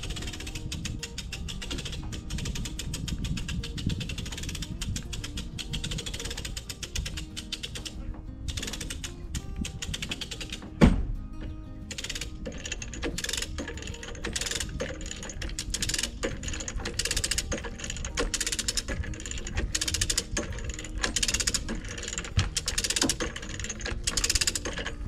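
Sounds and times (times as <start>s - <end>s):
ratchet clicking: 0.0s - 25.0s.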